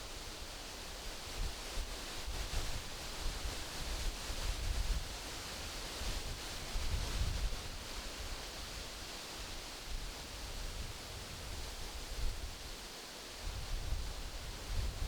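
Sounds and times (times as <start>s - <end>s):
wind rustling tree leaves: 0.0s - 15.0s.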